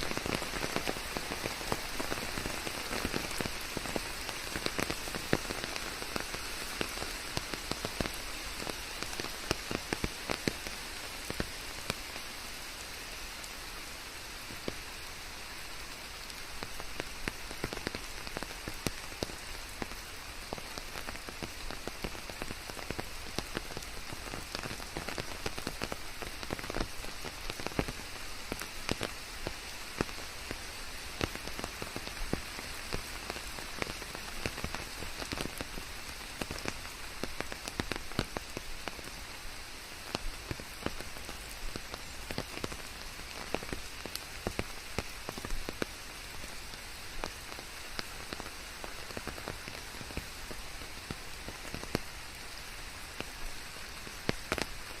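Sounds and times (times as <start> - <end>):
raindrops tapping a surface: 0.0 - 12.6, 14.1 - 55.0
rain hissing: 0.0 - 55.0.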